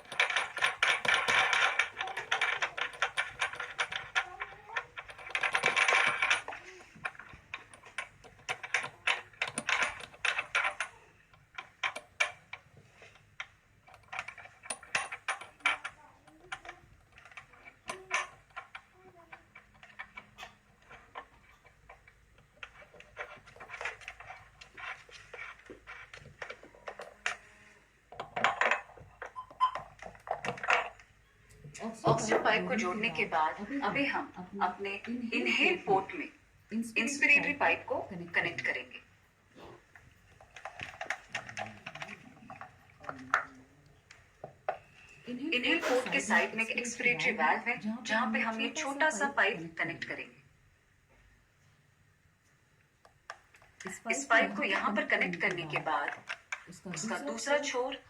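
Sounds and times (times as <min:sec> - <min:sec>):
hose fittings clicking and clattering: 0:00.0 - 0:50.2, 0:53.0 - 0:58.0.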